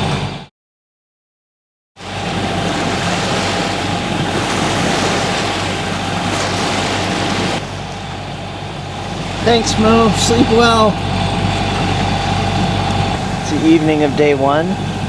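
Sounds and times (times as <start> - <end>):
boat engine humming: 0.0 - 0.5, 2.0 - 15.0
wind and sea rushing: 2.0 - 15.0.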